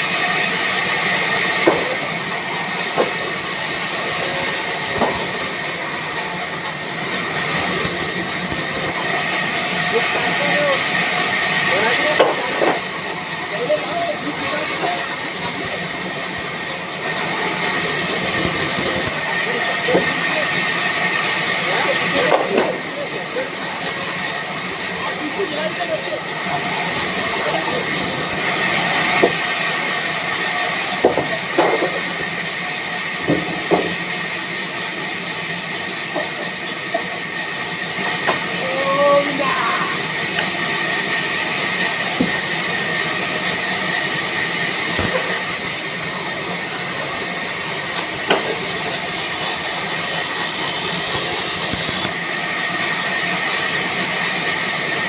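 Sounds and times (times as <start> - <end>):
sawmill machinery hissing and whining: 0.0 - 55.0.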